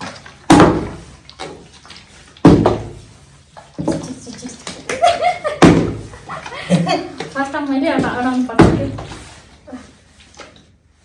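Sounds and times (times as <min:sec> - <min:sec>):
water sloshing in bottle: 0:00.0 - 0:11.0.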